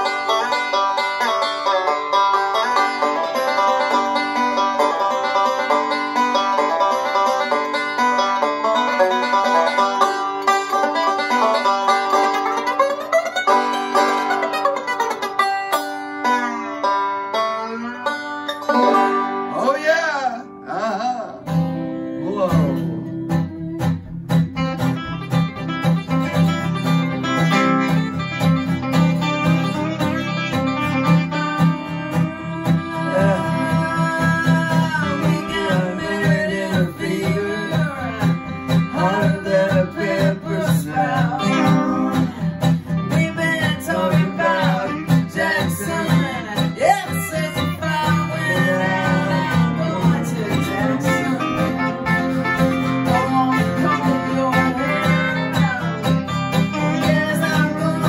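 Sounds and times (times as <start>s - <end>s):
banjo picking a bluegrass tune: 0.0s - 20.6s, 21.4s - 58.0s
acoustic guitar strumming: 0.0s - 58.0s.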